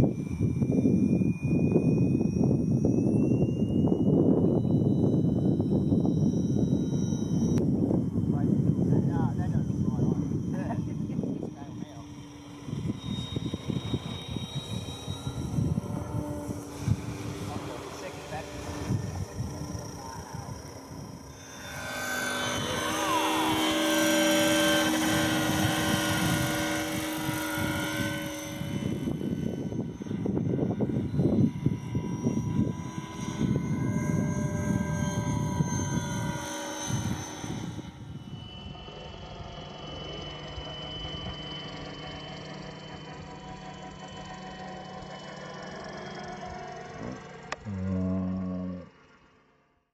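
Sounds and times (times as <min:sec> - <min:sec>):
model airplane propeller buzzing: 0:00.0 - 0:49.4.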